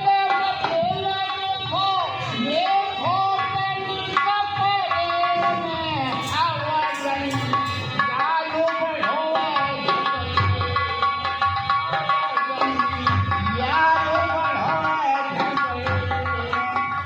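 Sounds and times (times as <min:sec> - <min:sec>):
tabla playing steady rhythm: 0:00.0 - 0:17.0.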